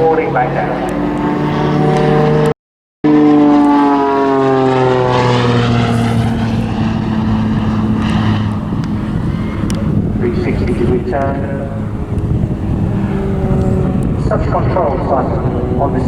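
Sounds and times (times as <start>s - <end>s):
propeller plane engine falling pitch: 0.0s - 16.0s.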